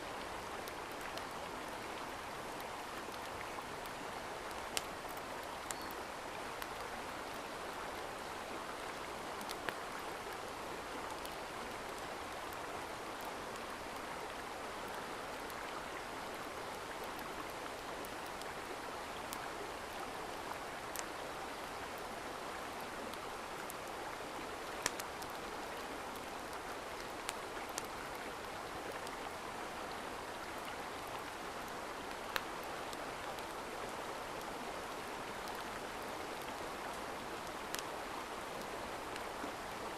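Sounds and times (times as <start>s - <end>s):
mountain stream running: 0.0s - 39.9s.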